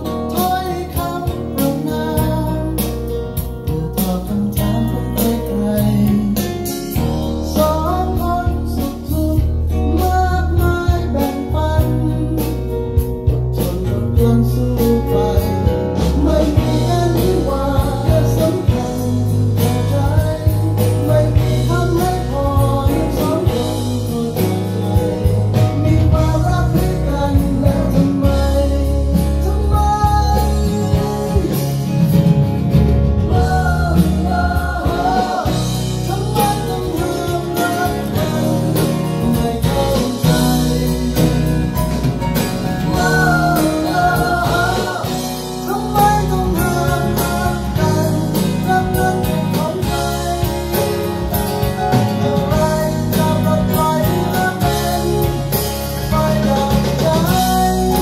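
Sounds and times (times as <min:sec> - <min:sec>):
song over speakers: 0:00.0 - 0:58.0.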